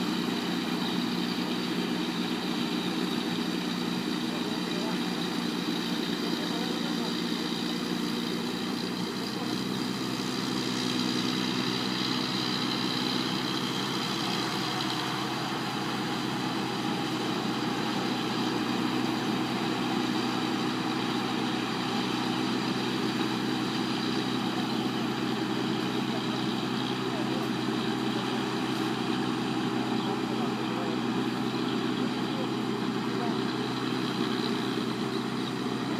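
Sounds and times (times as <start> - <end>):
combine harvester engine running: 0.0 - 35.9.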